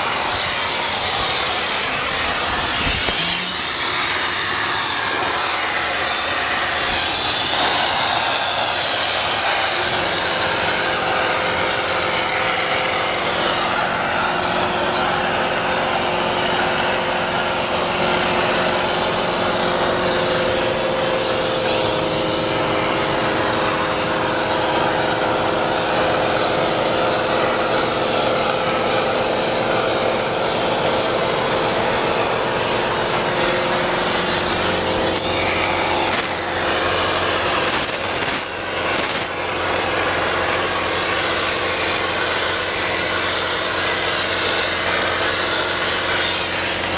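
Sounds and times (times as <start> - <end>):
machine hum: 0.0 - 46.9
spray foam gun hissing: 0.0 - 46.9.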